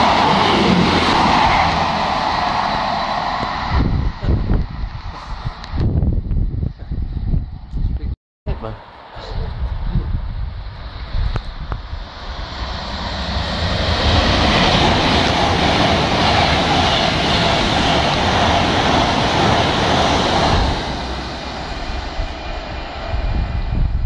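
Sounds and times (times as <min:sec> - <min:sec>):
electric train passing at speed: 0:00.0 - 0:07.7, 0:08.5 - 0:24.0.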